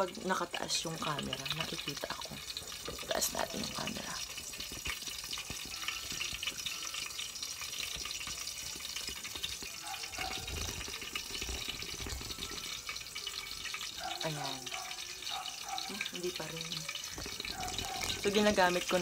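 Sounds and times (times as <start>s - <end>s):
oil hissing and crackling: 0.0s - 19.0s.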